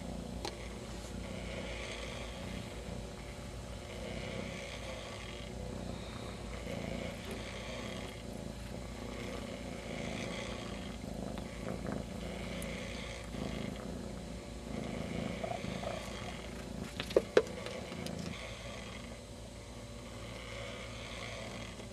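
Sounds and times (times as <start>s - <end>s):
kitten purring: 0.0s - 21.9s.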